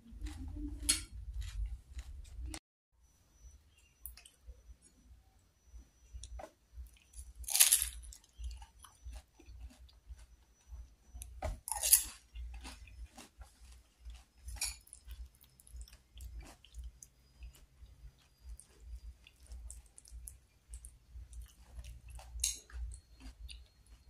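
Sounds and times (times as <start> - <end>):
person chewing crunchy food: 0.0 - 2.6, 6.1 - 24.0.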